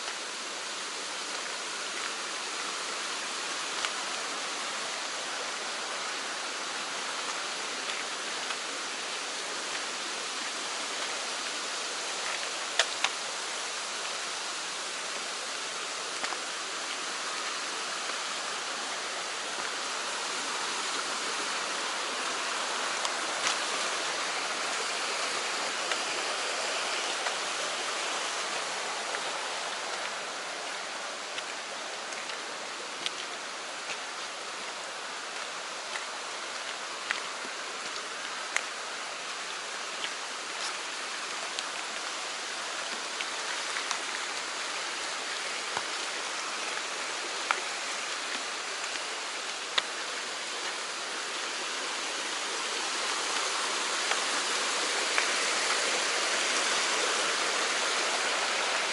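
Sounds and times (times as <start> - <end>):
stream rushing: 0.0 - 58.9.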